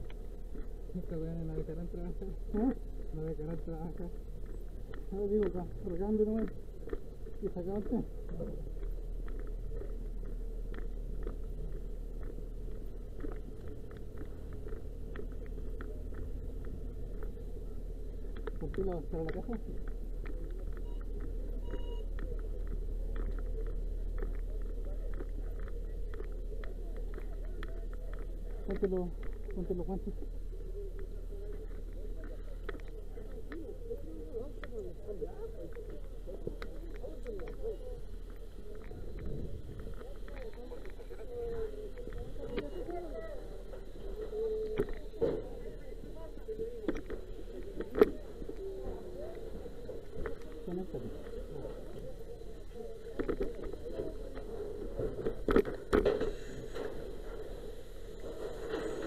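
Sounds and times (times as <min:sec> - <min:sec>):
low hum: 0:00.0 - 0:59.0
crowd voices: 0:07.8 - 0:59.0.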